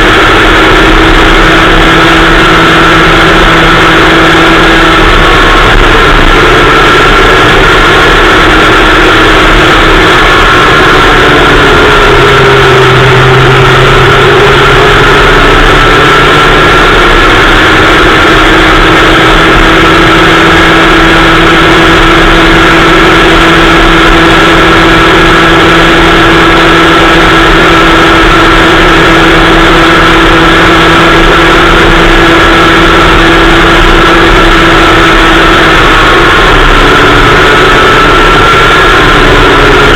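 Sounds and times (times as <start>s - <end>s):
small two-stroke engine running hard: 0.0s - 39.9s.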